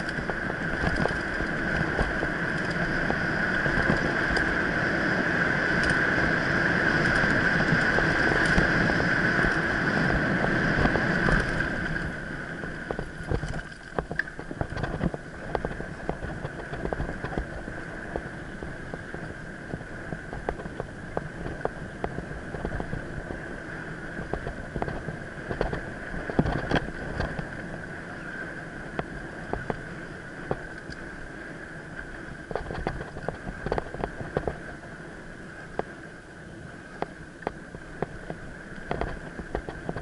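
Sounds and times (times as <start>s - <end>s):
bike rattling over bumps: 0.0s - 36.0s, 36.9s - 40.0s
bike tyres and air rushing: 0.0s - 40.0s.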